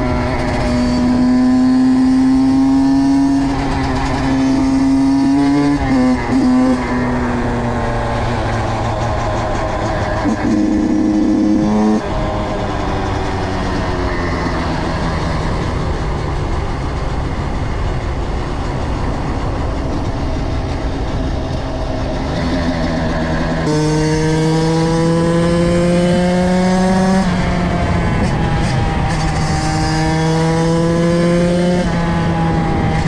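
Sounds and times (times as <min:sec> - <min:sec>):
motorcycle engine revving: 0:00.0 - 0:33.0
road and wind noise: 0:00.0 - 0:33.0.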